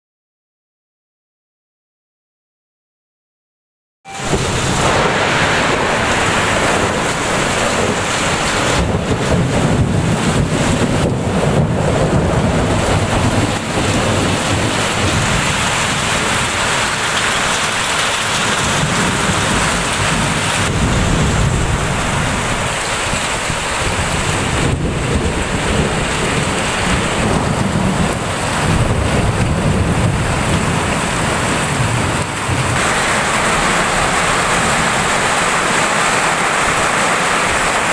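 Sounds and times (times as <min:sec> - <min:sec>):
heavy rain pouring: 0:04.1 - 0:37.9
low thunder rumbling: 0:04.2 - 0:37.9.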